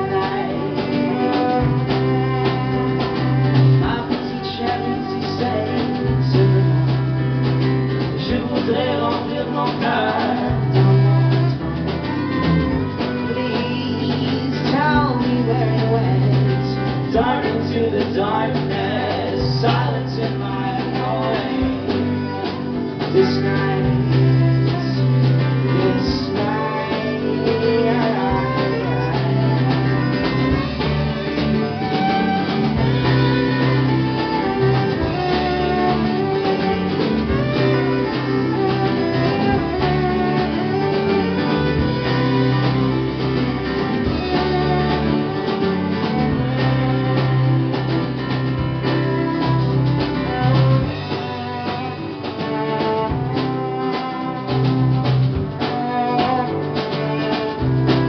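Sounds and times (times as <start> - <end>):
drums: 0.0 - 58.0
electric bass: 0.0 - 58.0
fiddle playing lead: 0.0 - 58.0
strummed acoustic guitar: 0.0 - 58.0.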